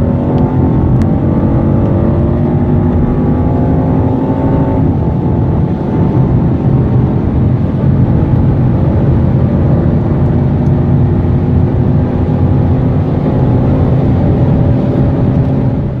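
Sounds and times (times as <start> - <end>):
car engine running hard: 0.0 - 16.0.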